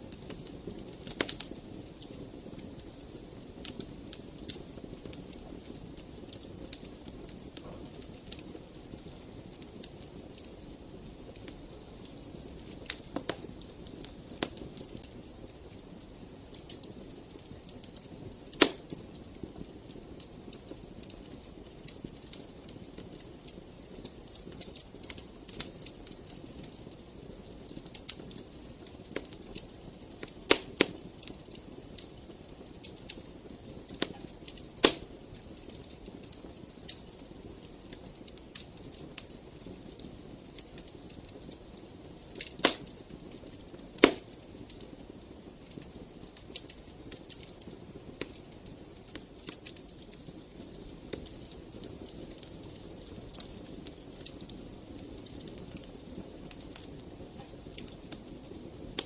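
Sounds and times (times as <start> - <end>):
flames rushing: 0.0 - 59.0
wood fire crackling: 0.0 - 59.0
loud fire pops: 0.1 - 59.0.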